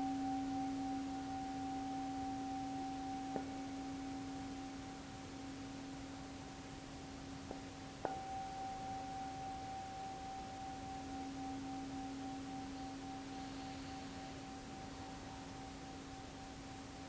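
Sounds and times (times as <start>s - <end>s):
metal singing bowl ringing: 0.0s - 6.2s, 8.0s - 17.0s.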